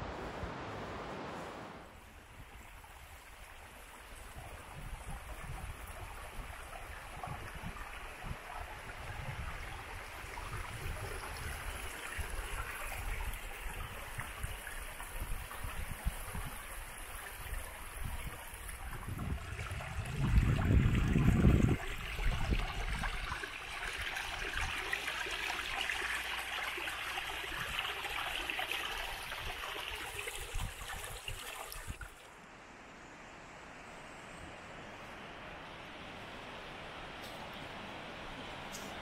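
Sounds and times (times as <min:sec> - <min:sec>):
running water: 0:00.0 - 0:32.4.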